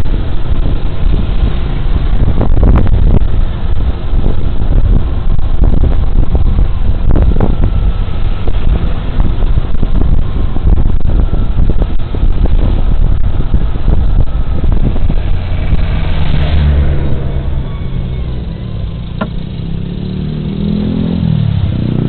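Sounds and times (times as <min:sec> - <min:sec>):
scooter engine running: 0:00.0 - 0:20.9
wind buffeting microphone: 0:00.0 - 0:22.0.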